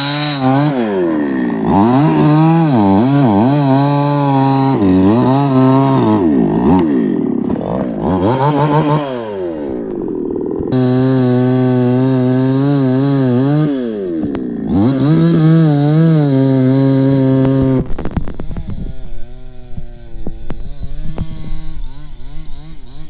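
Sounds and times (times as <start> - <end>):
chainsaw cutting at high revs: 0.0 - 23.0.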